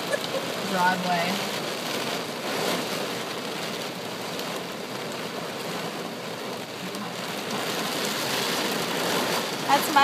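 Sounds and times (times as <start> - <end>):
heavy rain on car roof: 0.0 - 10.0.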